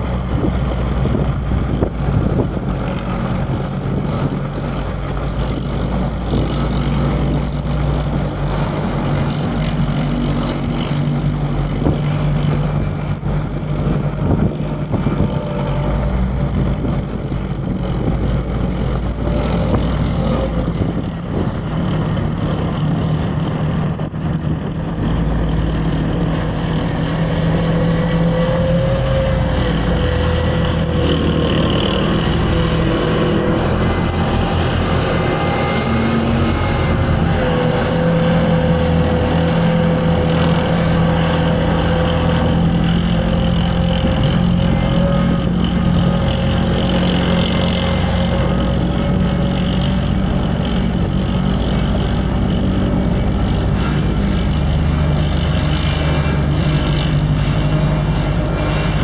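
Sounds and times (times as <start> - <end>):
car rumbling on dirt road: 0.0 - 59.0
clatter of tracks: 0.0 - 59.0
diesel engine drone: 0.0 - 59.0.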